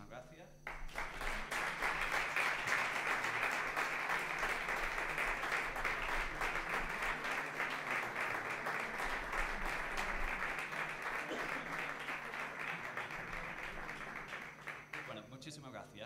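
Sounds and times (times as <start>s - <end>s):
audience applauding: 0.7s - 15.2s.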